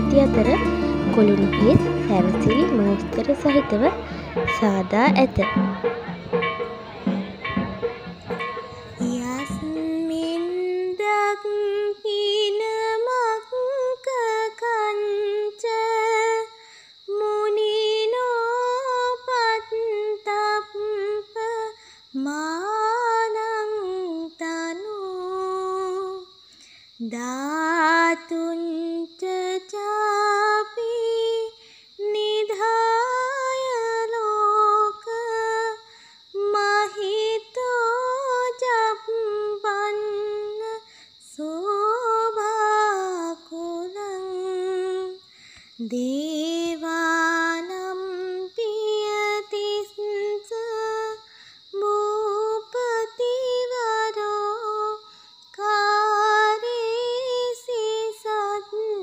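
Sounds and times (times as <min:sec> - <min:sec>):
woman singing slow melody: 0:00.0 - 0:05.8, 0:07.4 - 0:59.0.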